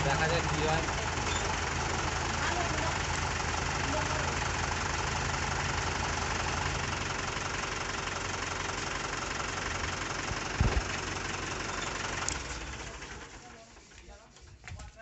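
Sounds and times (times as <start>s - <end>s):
diesel tractor engine idling: 0.0s - 14.3s.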